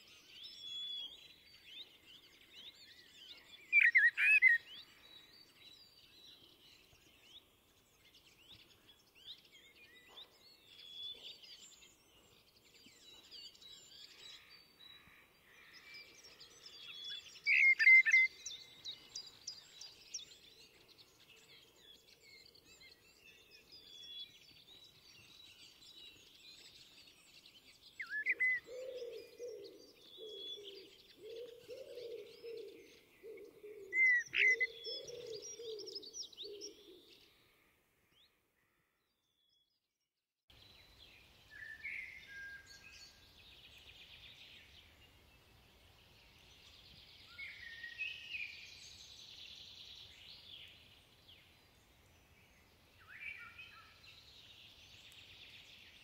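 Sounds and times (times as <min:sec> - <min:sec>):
blackbird singing: 0:00.0 - 0:37.3, 0:40.6 - 0:45.1, 0:46.1 - 0:56.0.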